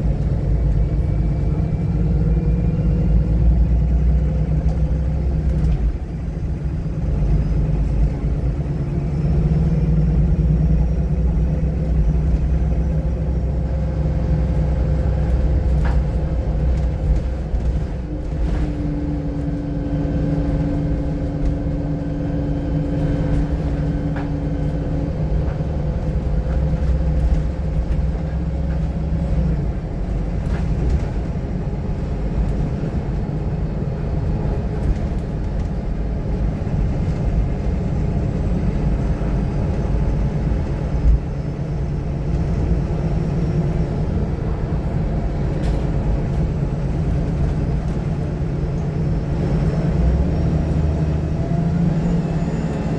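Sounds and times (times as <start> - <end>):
bus diesel engine drone: 0.0 - 52.9
road rumble: 0.0 - 52.9.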